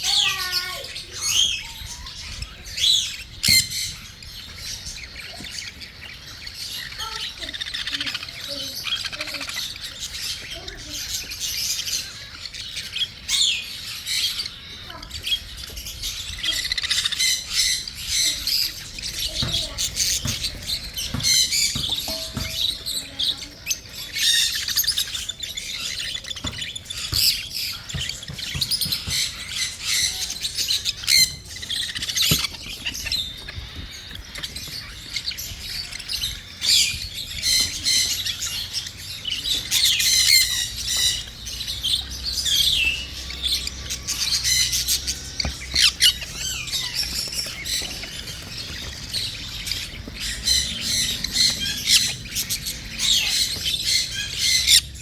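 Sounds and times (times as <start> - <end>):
cockatiel chicks squawking: 0.0 - 55.0.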